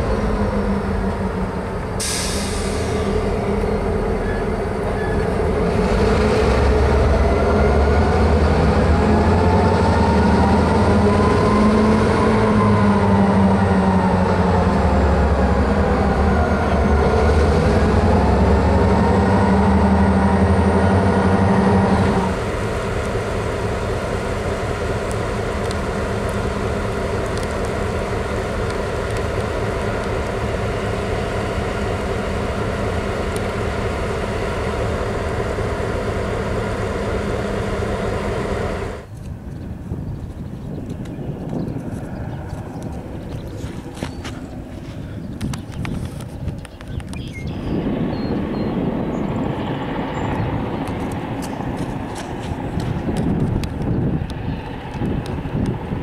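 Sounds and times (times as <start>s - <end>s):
diesel freight train running: 0.0s - 56.0s.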